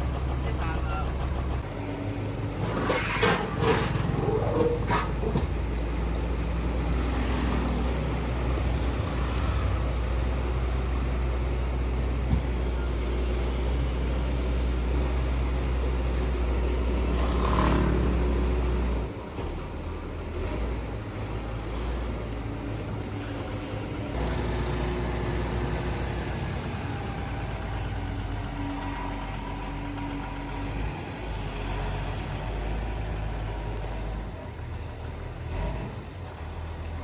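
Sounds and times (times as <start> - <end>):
diesel engine rumbling: 0.0 - 37.0.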